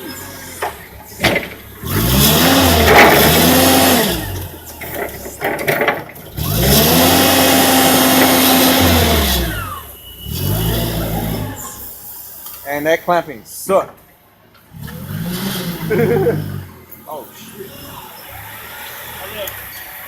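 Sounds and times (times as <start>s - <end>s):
forklift engine revving: 0.0s - 12.4s, 14.6s - 20.0s.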